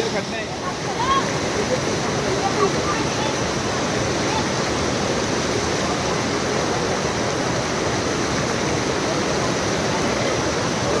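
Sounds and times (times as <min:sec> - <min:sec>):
rushing falling water: 0:00.0 - 0:11.0.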